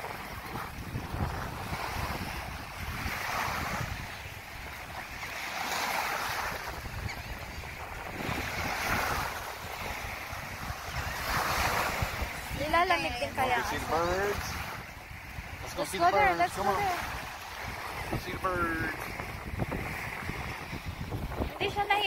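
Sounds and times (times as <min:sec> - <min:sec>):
small waves washing onto beach: 0:00.0 - 0:22.0
wind rumbling on microphone: 0:00.0 - 0:22.0.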